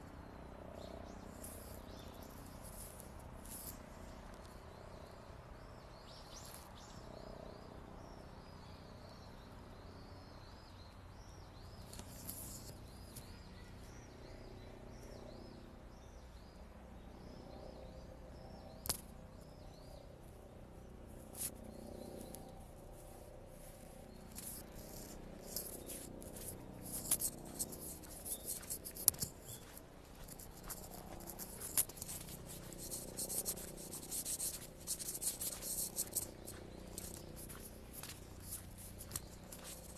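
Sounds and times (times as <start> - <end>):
low background hum: 0.0 - 39.9
small birds chirping: 0.0 - 39.9.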